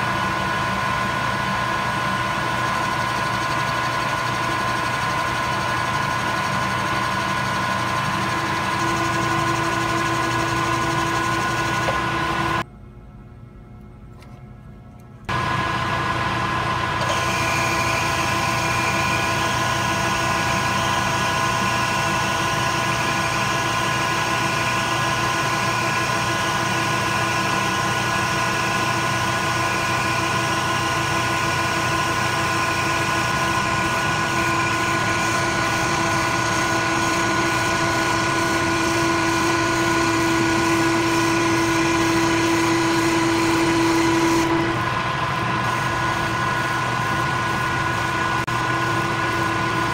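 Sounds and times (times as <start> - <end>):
metal lathe running: 0.0 - 12.6, 15.3 - 49.9
machine whining tones: 0.0 - 13.0, 15.2 - 49.9.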